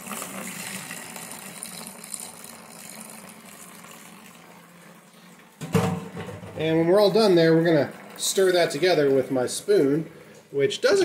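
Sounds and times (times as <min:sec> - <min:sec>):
liquid pouring into plastic bucket: 0:00.0 - 0:10.6
thin stream of beer running: 0:00.0 - 0:11.0.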